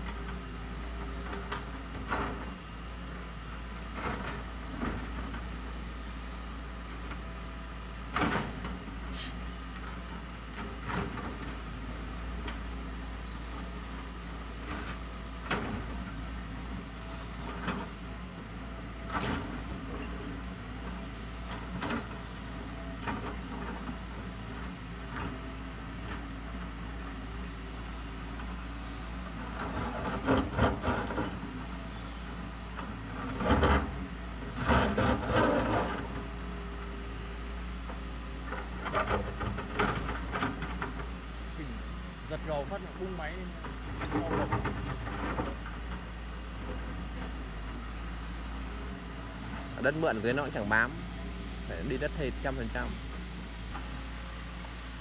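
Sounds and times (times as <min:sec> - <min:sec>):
diesel engine humming: 0:00.0 - 0:55.0
excavator scraping and crackling: 0:08.0 - 0:12.8, 0:13.6 - 0:55.0.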